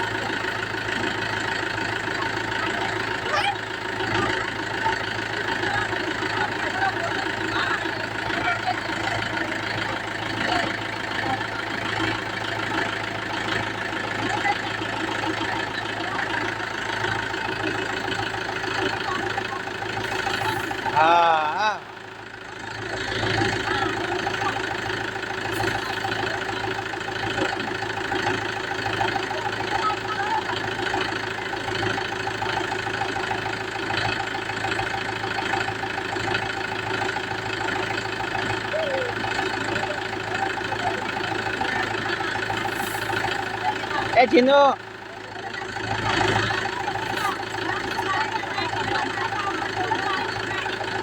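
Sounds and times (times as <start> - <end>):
people's voices: 0.0 - 51.0
tractor diesel engine idling: 0.0 - 51.0.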